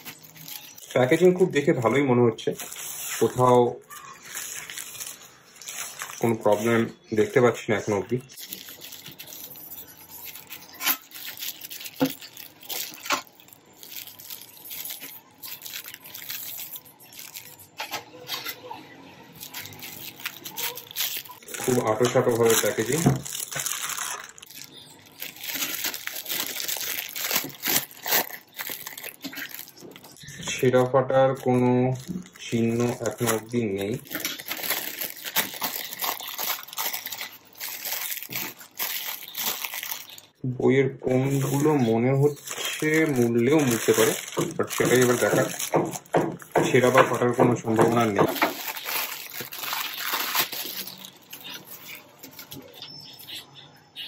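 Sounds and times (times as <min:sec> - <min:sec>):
plastic mailer crinkling: 0:00.0 - 0:18.5, 0:19.3 - 0:40.4, 0:41.1 - 0:53.0.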